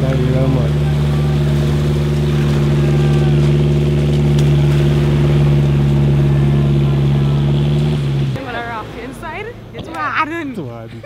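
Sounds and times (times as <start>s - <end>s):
car engine droning at high revs: 0.0s - 9.9s.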